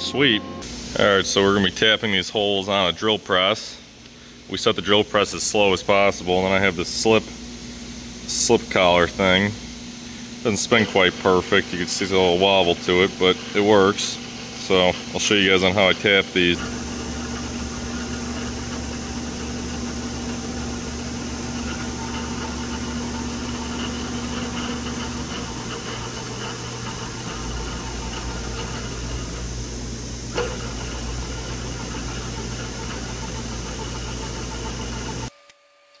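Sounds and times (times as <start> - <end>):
drill press motor humming: 0.0 - 2.0, 3.9 - 36.0.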